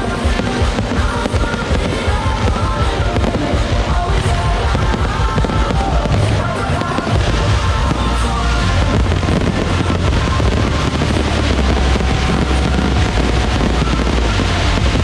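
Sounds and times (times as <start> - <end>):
deep rumble of fireworks booms: 0.0 - 15.0
fireworks crackling and popping: 0.0 - 15.0.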